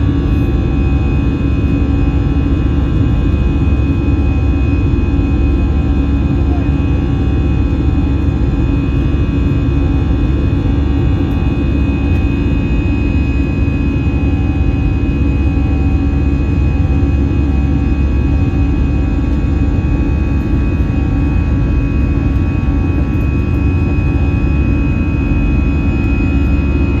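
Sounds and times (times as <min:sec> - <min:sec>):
jet engine drone in cabin: 0:00.0 - 0:27.0.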